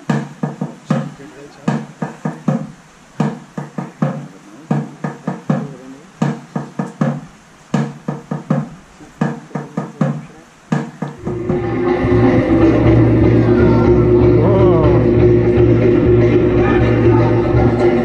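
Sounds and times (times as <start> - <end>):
hollow percussion beats: 0.0 - 18.0.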